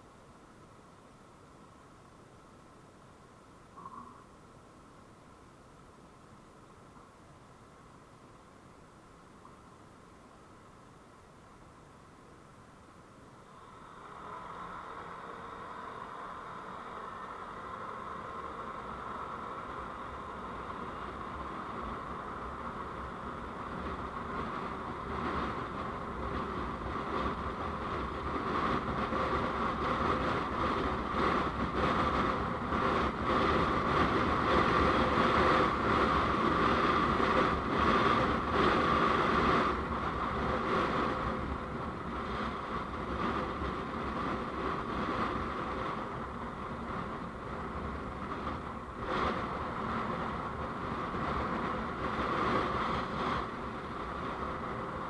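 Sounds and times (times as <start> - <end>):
vehicle road and wind noise: 0.0 - 55.0.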